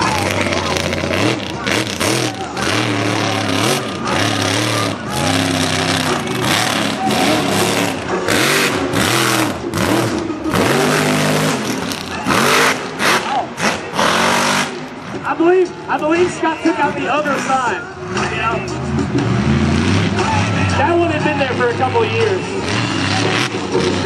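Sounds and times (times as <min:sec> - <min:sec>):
truck engine revving hard: 0:00.0 - 0:15.3, 0:17.2 - 0:24.0
tyres churning mud: 0:00.0 - 0:24.0.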